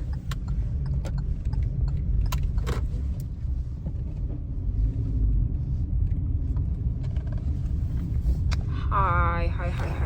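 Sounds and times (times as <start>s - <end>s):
car low rumble: 0.0s - 10.0s.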